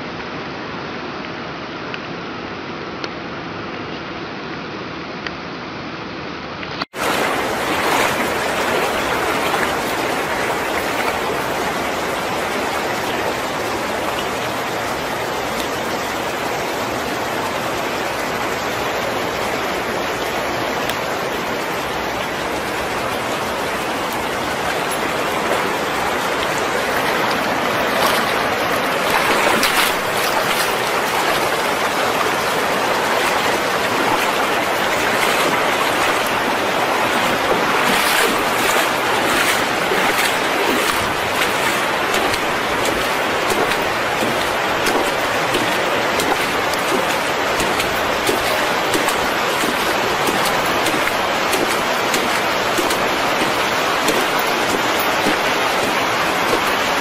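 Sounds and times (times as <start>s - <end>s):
floodwater rushing: 6.8s - 57.0s.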